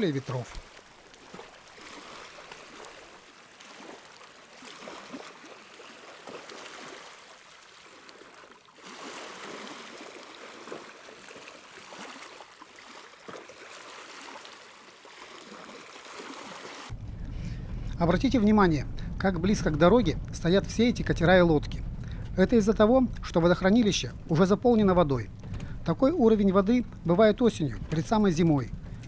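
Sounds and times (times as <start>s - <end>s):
water lapping and gurgling: 0.0s - 29.0s.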